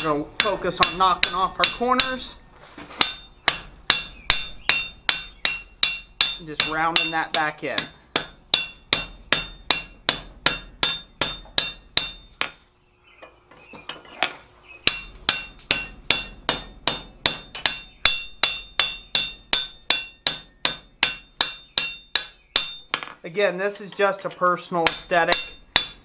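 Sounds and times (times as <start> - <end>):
hammer ringing on hot metal: 0.0 - 2.3, 3.0 - 12.5, 14.8 - 23.2, 24.2 - 26.0.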